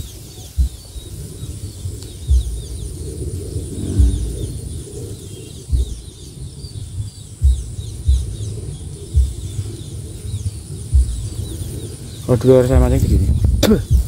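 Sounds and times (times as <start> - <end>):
high-pitched whine: 0.0 - 13.2
small birds chirping: 0.0 - 14.0.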